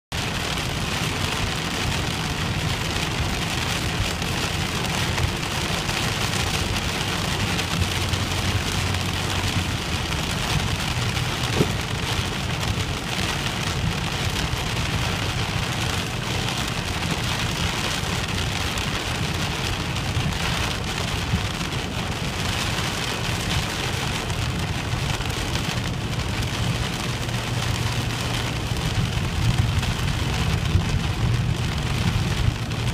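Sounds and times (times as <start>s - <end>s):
heavy rain drumming on car roof: 0.1s - 32.9s
car driving drone: 0.2s - 32.9s.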